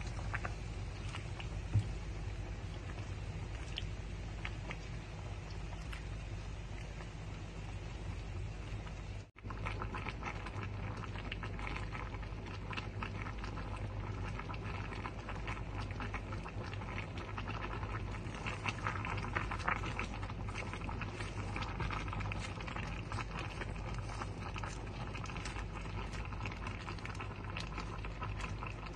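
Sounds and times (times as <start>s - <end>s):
broth simmering and bubbling: 0.0s - 28.9s.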